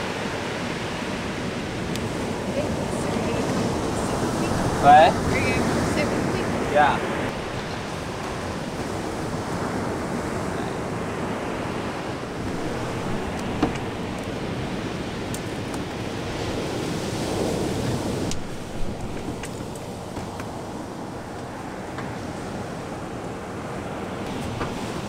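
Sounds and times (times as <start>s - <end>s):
ocean surf breaking: 0.0s - 25.0s
wind on microphone: 0.0s - 25.0s.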